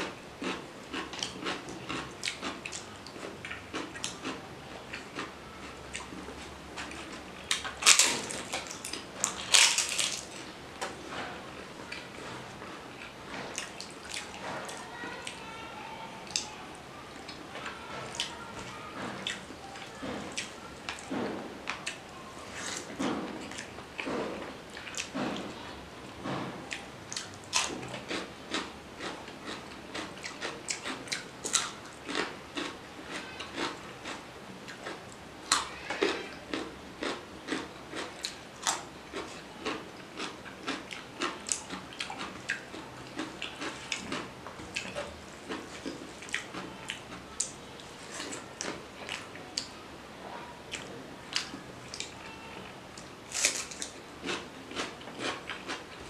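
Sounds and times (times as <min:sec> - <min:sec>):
person chewing and crunching food: 0:00.0 - 0:15.4, 0:17.2 - 0:49.7, 0:50.7 - 0:56.0.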